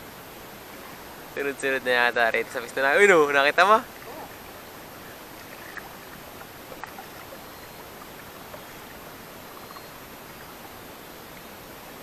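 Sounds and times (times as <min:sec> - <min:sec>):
water washing around boat: 0:00.0 - 0:12.0
wind: 0:00.0 - 0:12.0.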